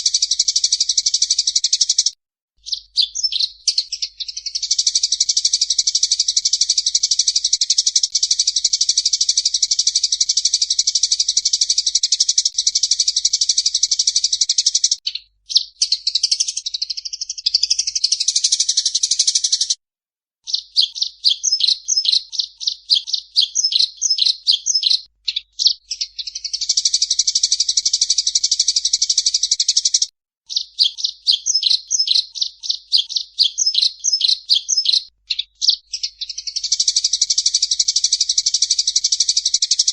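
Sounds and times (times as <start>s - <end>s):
songbird singing trills: 0.0s - 19.8s, 20.4s - 39.9s.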